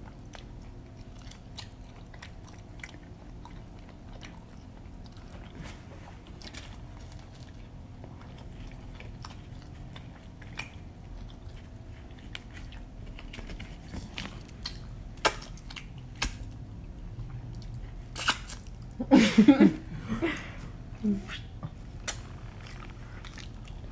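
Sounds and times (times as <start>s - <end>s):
biting and chewing pizza: 0.0s - 19.0s, 20.3s - 23.9s.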